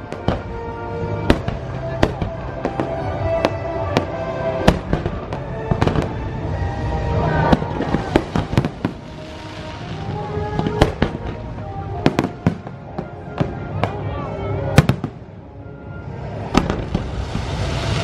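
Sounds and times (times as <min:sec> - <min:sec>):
fireworks crackling hiss: 0:00.0 - 0:12.9, 0:16.2 - 0:18.0
fireworks bangs: 0:00.0 - 0:15.3, 0:16.4 - 0:18.0
music playing: 0:00.0 - 0:18.0.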